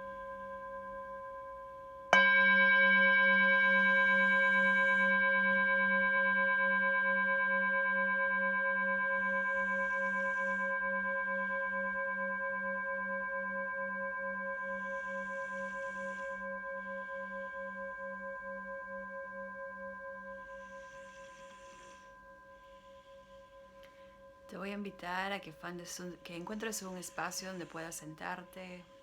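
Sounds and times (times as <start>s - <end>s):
singing bowl ringing: 0.0s - 29.0s.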